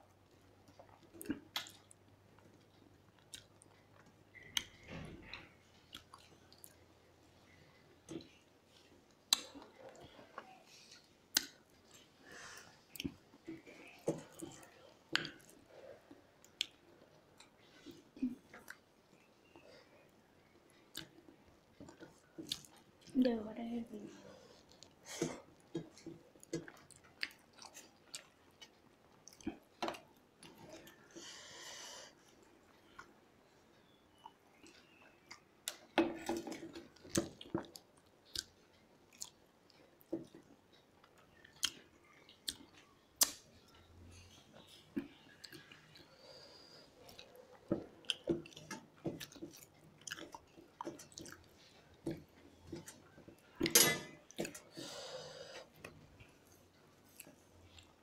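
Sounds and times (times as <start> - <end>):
people chewing: 0.0 - 23.4, 24.1 - 58.0.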